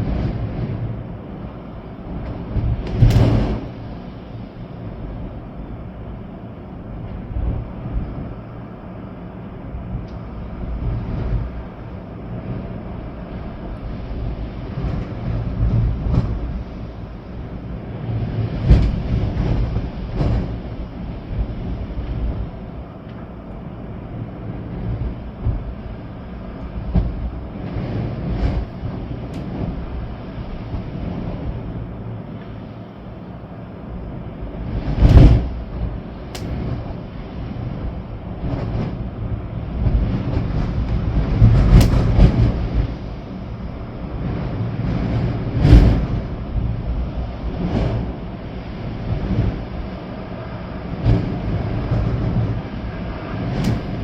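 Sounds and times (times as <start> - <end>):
rain: 0.0 - 54.0
wind gusts: 0.0 - 54.0.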